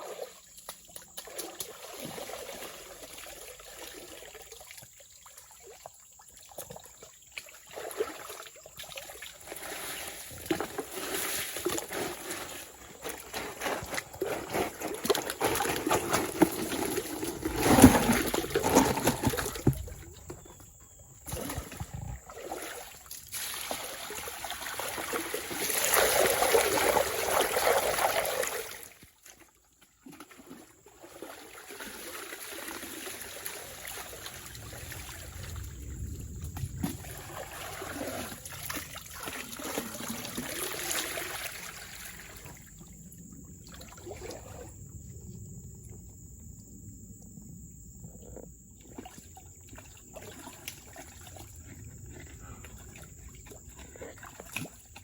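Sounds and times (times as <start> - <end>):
water splashing and trickling: 0.0 - 46.1, 48.7 - 55.0.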